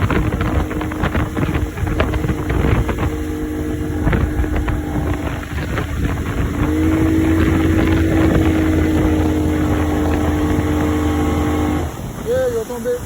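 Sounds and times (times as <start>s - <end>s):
motorboat engine running: 0.0s - 13.0s
wind on microphone: 0.0s - 13.0s.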